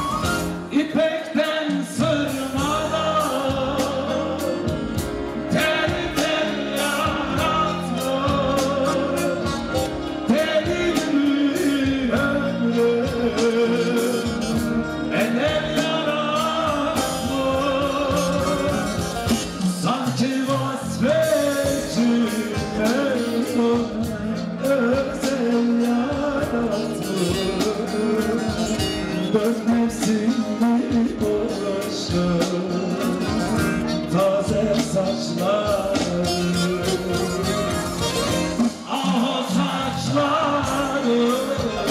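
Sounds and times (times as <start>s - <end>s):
amplified band with steady beat: 0.0s - 41.9s
man singing into a microphone: 0.0s - 41.9s.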